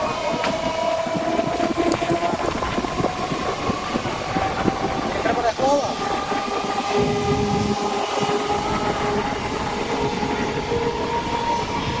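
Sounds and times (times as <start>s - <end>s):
thin whining tones: 0.0s - 12.0s
train wheels rumbling on rails: 0.0s - 12.0s.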